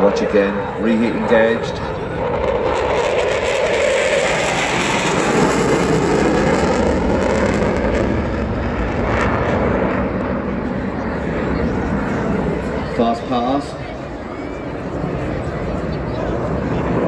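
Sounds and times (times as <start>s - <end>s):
jet engines in afterburner: 0.0s - 17.0s.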